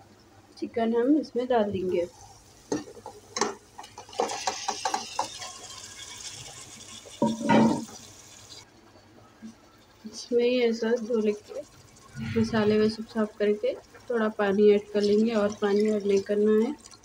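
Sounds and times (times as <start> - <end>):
hissing sizzle in hot oil: 0.0 - 17.0.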